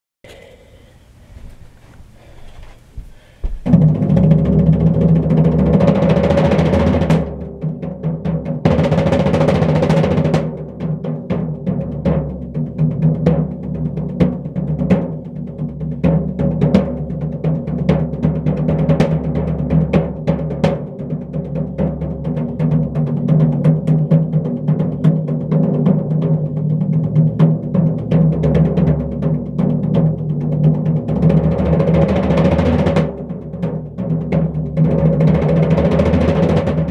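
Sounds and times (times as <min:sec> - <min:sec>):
hand drum roll: 0:03.0 - 0:36.9.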